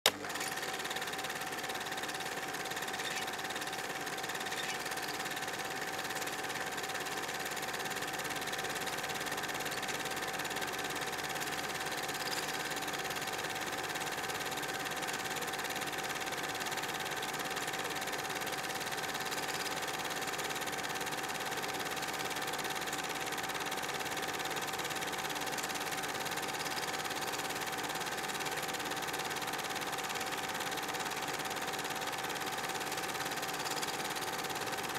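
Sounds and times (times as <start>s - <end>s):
film projector whirring: 0.1s - 34.9s.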